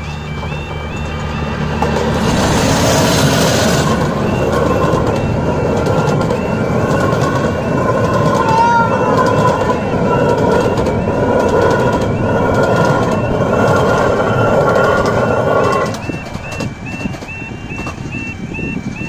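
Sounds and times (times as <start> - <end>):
train wheels squealing on rails: 0.0 - 19.0
warbling crossing alarm: 0.0 - 19.0.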